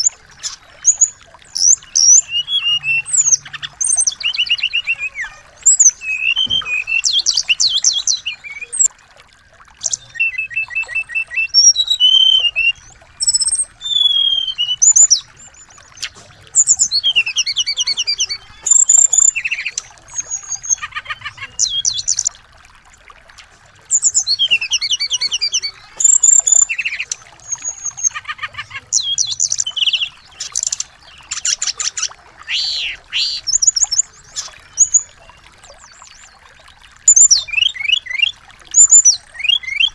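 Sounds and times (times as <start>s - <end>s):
songbirds singing trills and chirps: 0.0s - 39.9s.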